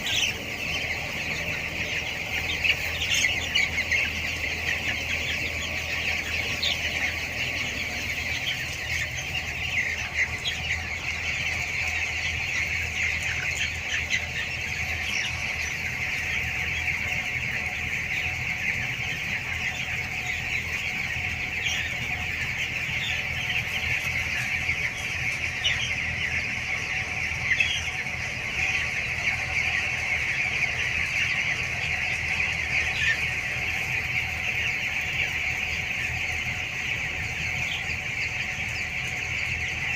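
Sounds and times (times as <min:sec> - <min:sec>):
chicks peeping and chirping: 0:00.0 - 0:39.9
steady low hum: 0:00.0 - 0:39.9.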